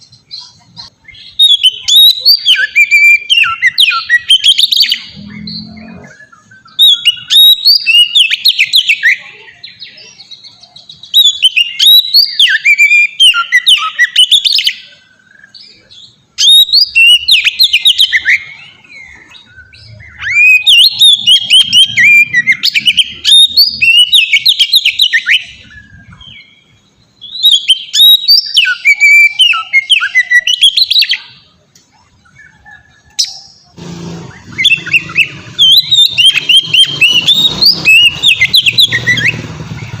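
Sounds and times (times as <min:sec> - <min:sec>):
magpie-robin singing whistles and trills: 0:00.0 - 0:33.8, 0:34.4 - 0:40.0.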